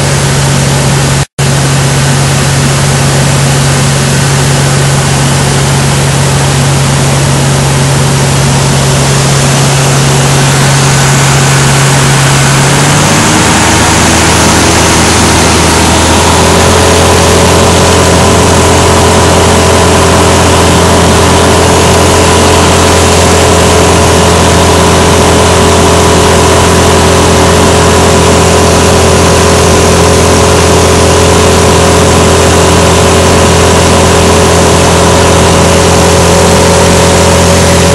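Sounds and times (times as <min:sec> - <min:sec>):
aircraft engine drone: 0:00.0 - 0:37.9
rushing air: 0:00.0 - 0:37.9.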